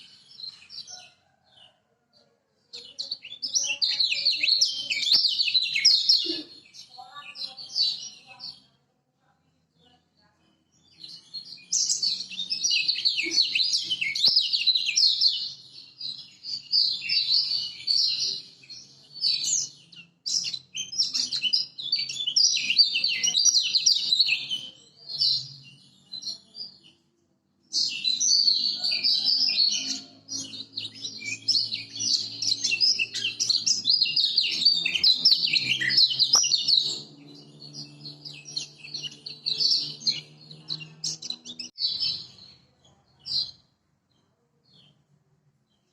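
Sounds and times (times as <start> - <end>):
bird twittering song: 0.0 - 1.8, 2.7 - 8.8, 9.8 - 45.1.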